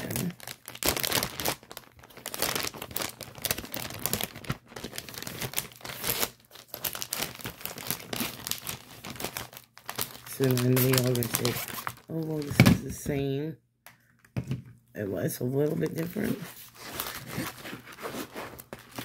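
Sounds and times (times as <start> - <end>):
plastic bag crinkling: 0.0 - 12.9, 15.7 - 19.0.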